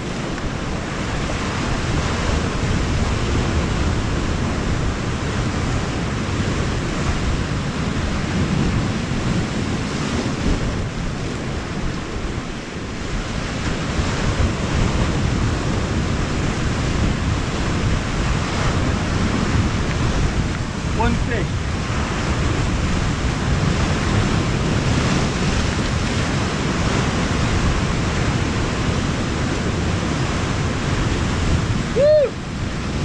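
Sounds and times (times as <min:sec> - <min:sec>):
sea waves washing in: 0:00.0 - 0:33.0
wind on microphone: 0:00.0 - 0:33.0.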